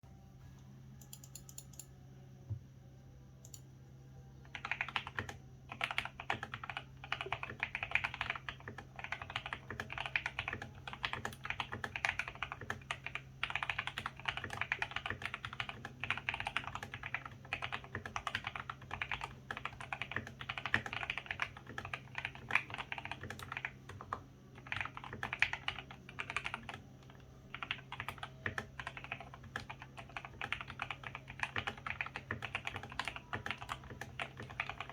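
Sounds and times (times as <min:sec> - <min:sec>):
mechanical keyboard typing: 0:04.5 - 0:34.9.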